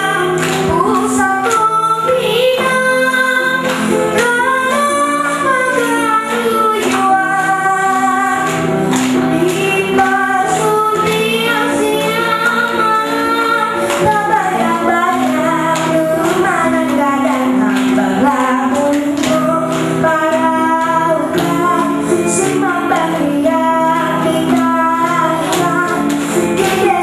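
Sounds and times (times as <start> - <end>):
girl singing into a microphone: 0.0 - 27.0.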